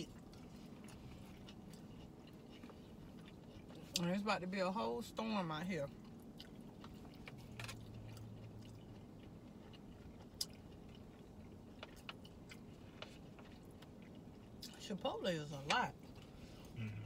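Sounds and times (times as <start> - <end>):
quiet chewing: 0.0 - 4.5, 5.6 - 14.9, 15.6 - 17.0
low steady hum: 0.0 - 17.0.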